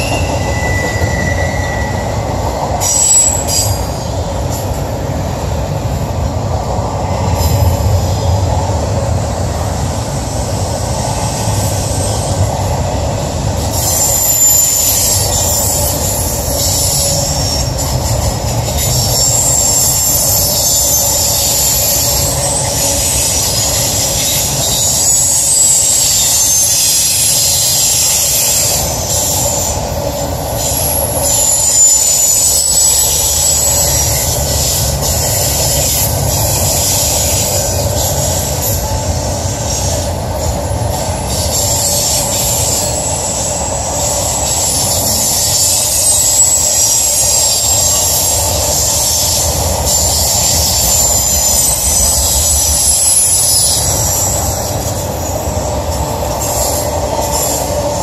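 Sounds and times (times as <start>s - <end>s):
high-pitched wheel squeal: 0.0s - 4.8s, 13.4s - 58.0s
steel wheels rumbling on rail: 0.0s - 58.0s.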